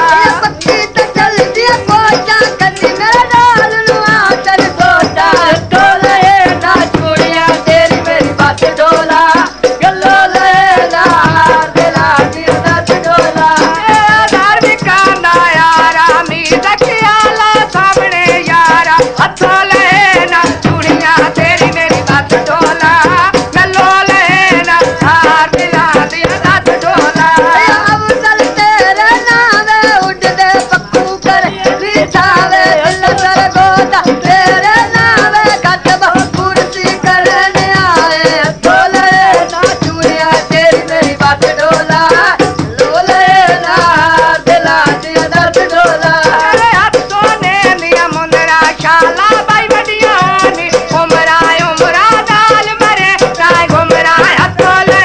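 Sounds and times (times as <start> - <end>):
jingling percussion: 0.0 - 55.0
steady drum beat: 0.0 - 55.0.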